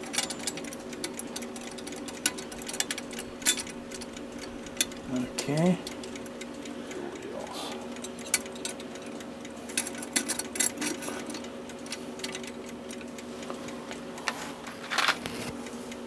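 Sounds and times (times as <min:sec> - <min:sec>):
metallic clicks of clock parts: 0:00.0 - 0:16.0
steady low hum: 0:00.0 - 0:16.0.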